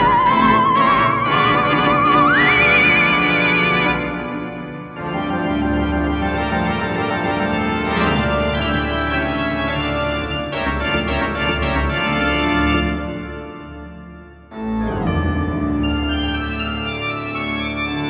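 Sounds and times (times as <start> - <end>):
organ-like chords: 0.0 - 18.0.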